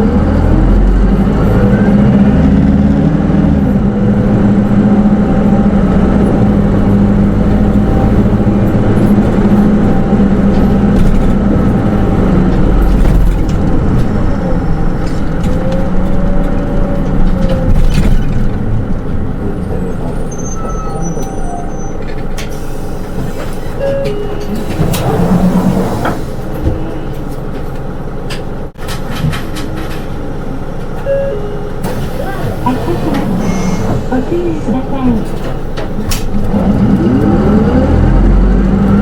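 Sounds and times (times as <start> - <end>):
bus diesel engine droning: 0.0 - 39.0.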